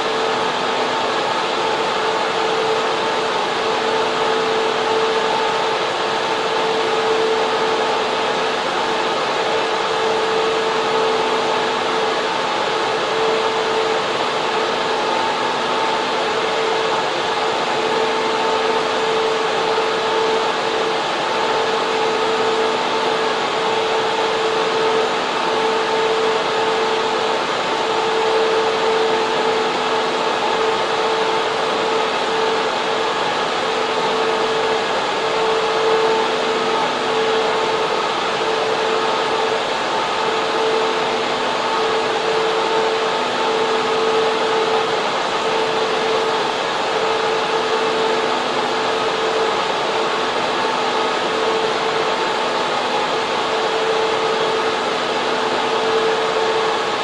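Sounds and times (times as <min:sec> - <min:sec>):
cooling fans whirring: 0:00.0 - 0:57.0
steady humming tone: 0:00.0 - 0:57.0.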